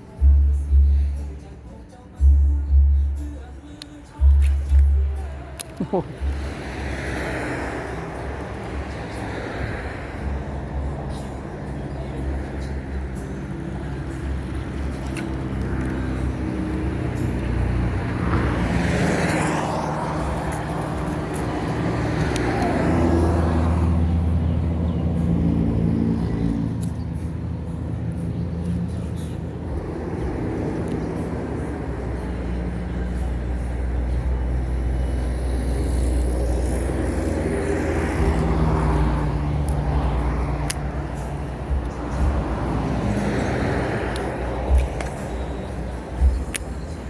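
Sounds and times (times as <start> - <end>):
traffic engine hum: 0.0 - 47.0
vehicles passing: 0.0 - 47.0.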